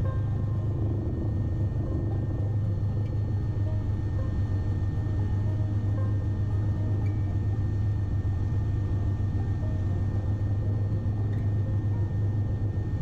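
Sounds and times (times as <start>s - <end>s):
helicopter rotor drone: 0.0s - 13.0s.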